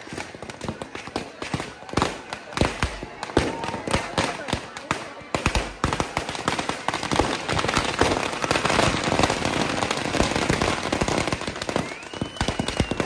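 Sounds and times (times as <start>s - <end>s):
firecrackers bursting rapidly: 0.0s - 13.0s.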